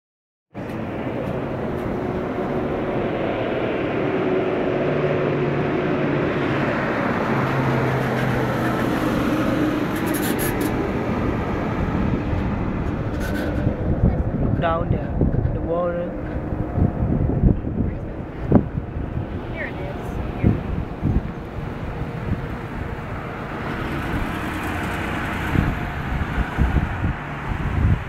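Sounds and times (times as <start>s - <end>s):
road rumble: 0.5s - 28.0s
low engine hum: 0.6s - 28.0s.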